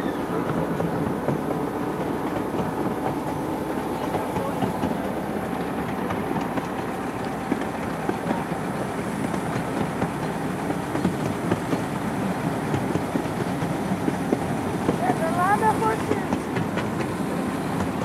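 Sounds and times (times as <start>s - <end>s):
miniature train rumbling on track: 0.0s - 18.0s
wheels clicking: 0.0s - 18.0s.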